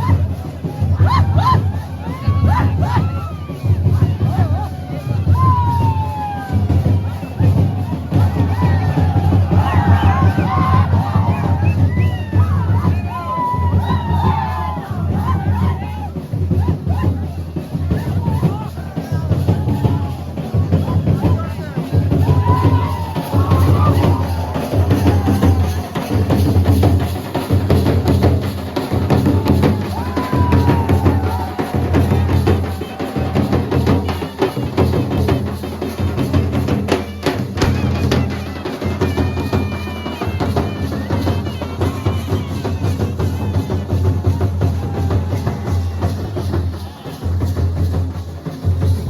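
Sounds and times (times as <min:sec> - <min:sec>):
heavy deep drumbeat music: 0:00.0 - 0:39.7
light percussion: 0:00.0 - 0:49.0.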